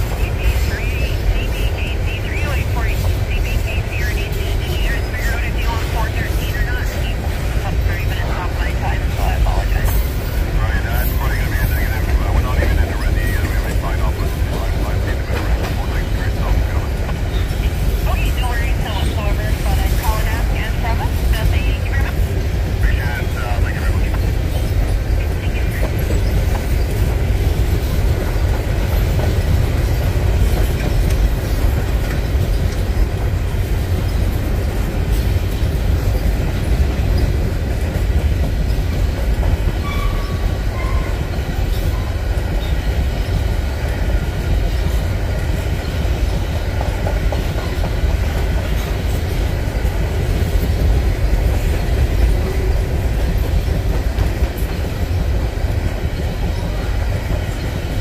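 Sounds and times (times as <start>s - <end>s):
freight train wheels rolling on rail: 0.0s - 58.0s.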